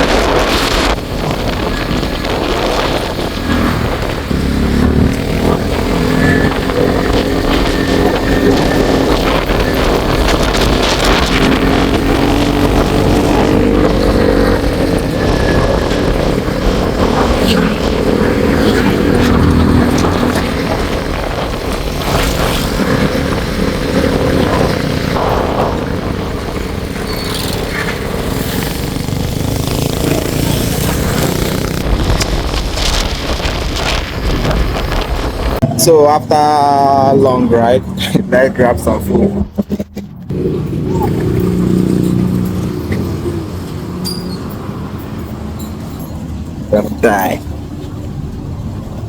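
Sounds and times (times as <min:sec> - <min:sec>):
wind rumbling on microphone: 0:00.0 - 0:46.8
road and air noise: 0:00.0 - 0:49.0
vehicle engine running: 0:00.0 - 0:49.0.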